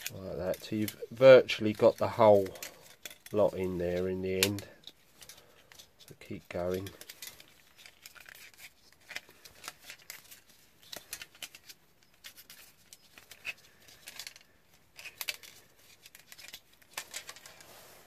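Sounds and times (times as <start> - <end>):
metal spring clicking and scraping plastic: 0.0 - 17.7.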